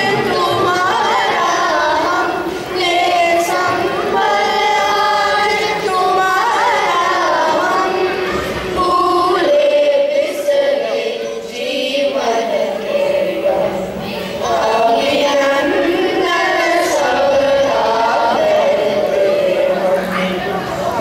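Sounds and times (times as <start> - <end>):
children's chorus singing: 0.0 - 21.0.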